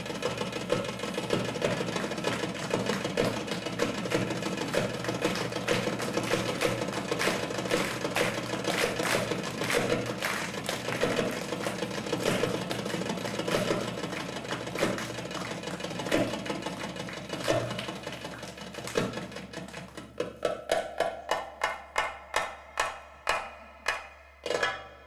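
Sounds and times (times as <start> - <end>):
goblet drum played by hand: 0.2 - 25.0.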